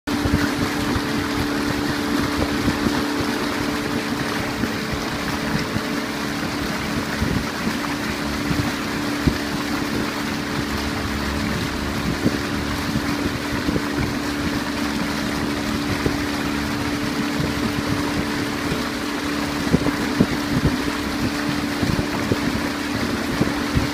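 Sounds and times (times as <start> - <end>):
boat engine humming: 0.0 - 23.9
wind buffeting microphone: 0.1 - 23.9.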